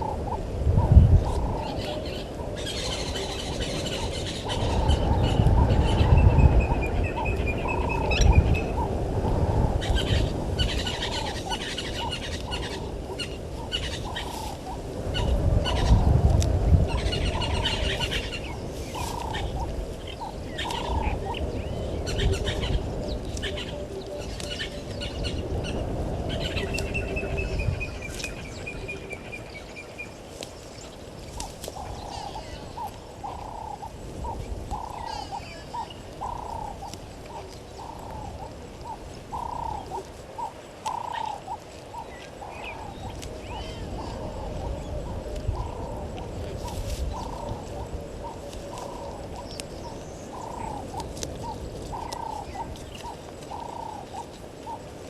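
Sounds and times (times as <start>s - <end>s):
wild birds calling and chirping: 0.0s - 55.0s.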